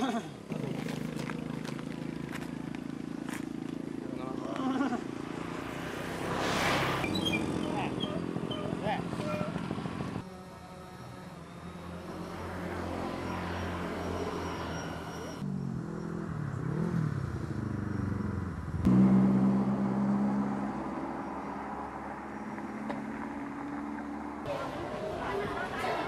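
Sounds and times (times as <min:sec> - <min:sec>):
vehicle engine humming: 0:00.0 - 0:26.0
engine passing by: 0:00.4 - 0:26.0.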